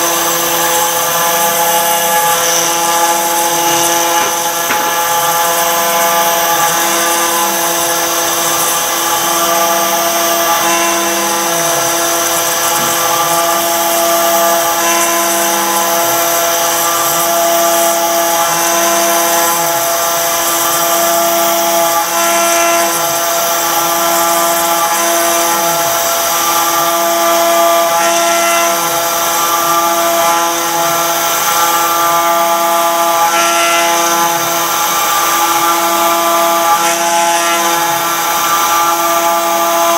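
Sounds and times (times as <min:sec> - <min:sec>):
bit cutting into stone: 0:00.0 - 0:39.9
router spindle whining: 0:00.0 - 0:39.9.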